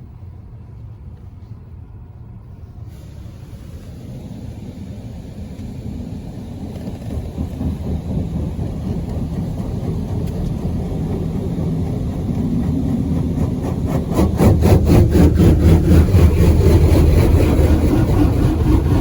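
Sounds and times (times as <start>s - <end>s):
car wash rumbling: 0.0s - 19.0s.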